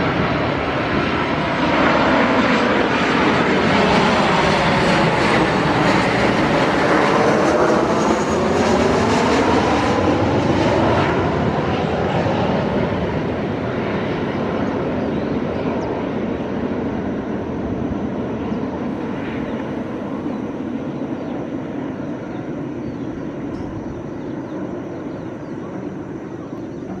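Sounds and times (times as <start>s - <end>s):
jet engine rumble: 0.0s - 27.0s.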